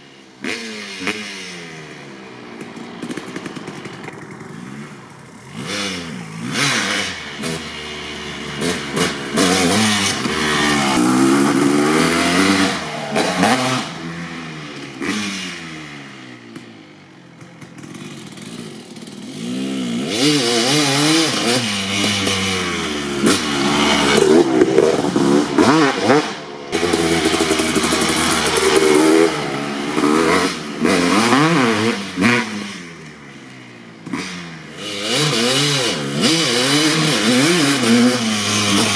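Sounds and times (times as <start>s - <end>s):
dirt bike engine revving: 0.4s - 38.9s.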